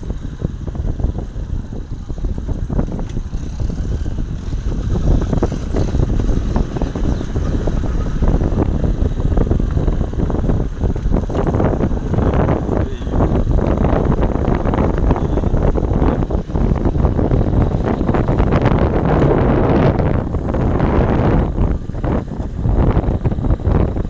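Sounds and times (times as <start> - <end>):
motorcycle engine rumble: 0.0 - 24.0
wind buffeting microphone: 0.0 - 24.0.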